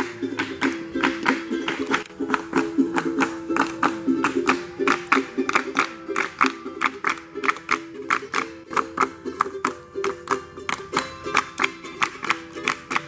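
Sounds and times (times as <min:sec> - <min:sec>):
small string instrument strummed: 0:00.0 - 0:13.0.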